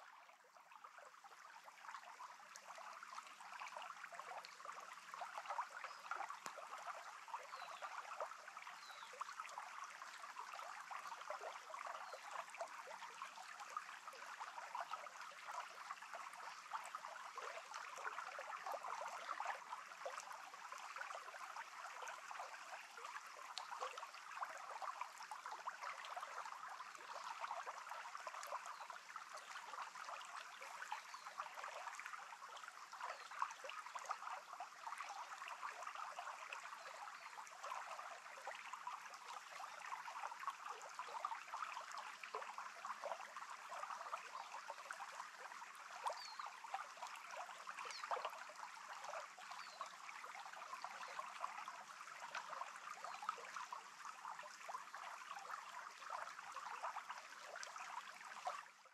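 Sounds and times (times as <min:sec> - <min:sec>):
small stream babbling: 0:00.0 - 0:58.9.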